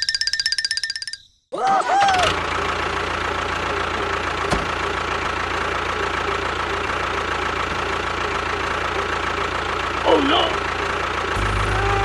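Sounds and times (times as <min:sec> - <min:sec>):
small engine running: 0:01.9 - 0:12.0.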